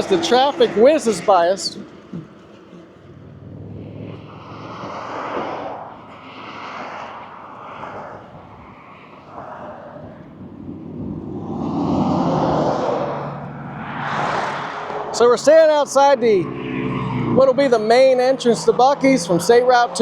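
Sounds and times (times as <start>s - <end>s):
vehicles whooshing past: 0.0s - 20.0s.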